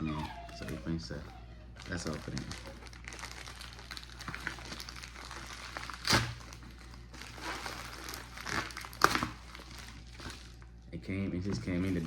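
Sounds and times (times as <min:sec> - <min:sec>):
packaging crinkling and rustling: 0:00.0 - 0:10.8, 0:11.4 - 0:12.0.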